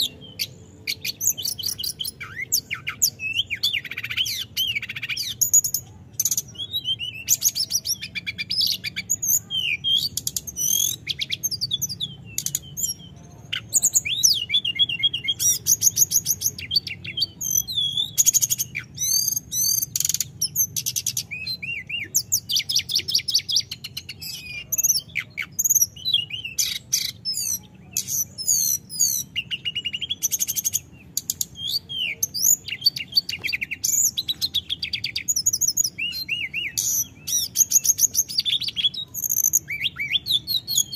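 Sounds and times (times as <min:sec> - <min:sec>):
bird singing rolling song: 0:00.0 - 0:40.9.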